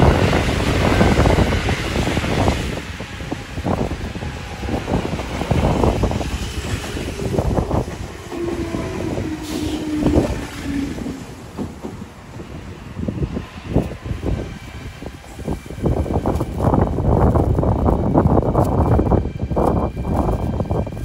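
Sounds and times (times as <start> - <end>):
train whine: 0.0 - 21.0.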